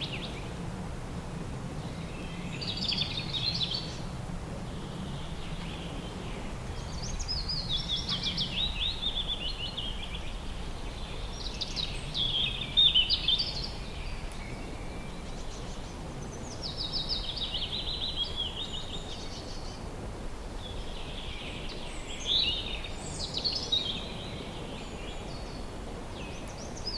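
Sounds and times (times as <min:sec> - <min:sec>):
songbird singing: 0:00.0 - 0:00.6, 0:01.8 - 0:19.9, 0:20.6 - 0:26.9
low background noise: 0:00.0 - 0:26.9.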